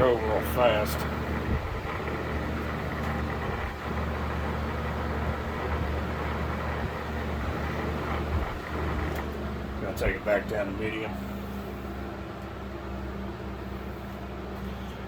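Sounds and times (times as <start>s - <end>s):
box fan rushing air: 0.0s - 15.0s
fan motor hum: 0.0s - 15.0s.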